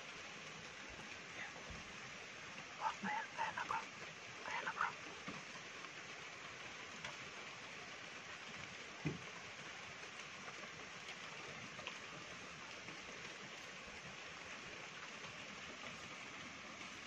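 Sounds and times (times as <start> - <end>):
faint background hiss: 0.0 - 17.0.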